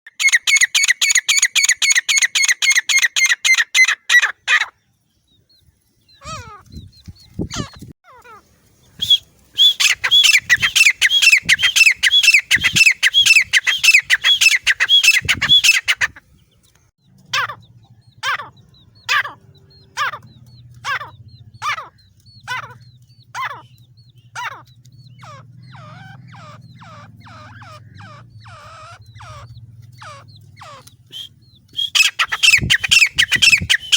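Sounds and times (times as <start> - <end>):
bird calling in shrill notes: 0.1 - 4.8, 6.0 - 33.9.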